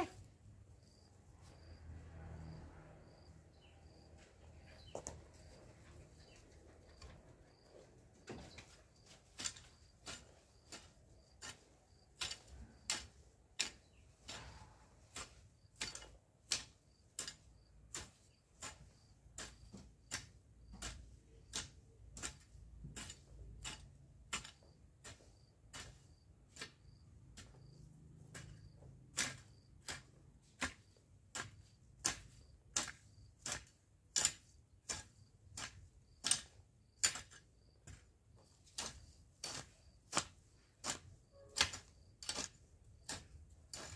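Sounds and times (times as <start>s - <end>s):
hoe scraping dry soil: 0.0s - 43.9s.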